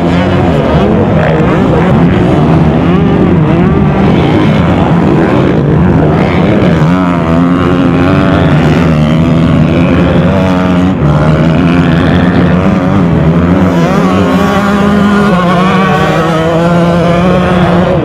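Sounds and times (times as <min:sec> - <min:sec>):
motocross motorcycles revving: 0:00.0 - 0:18.0.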